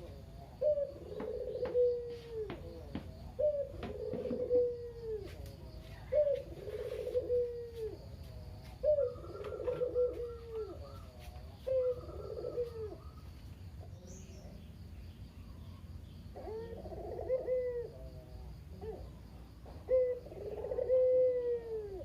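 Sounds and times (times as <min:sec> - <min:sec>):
dove cooing: 0:00.0 - 0:14.5, 0:16.3 - 0:22.0.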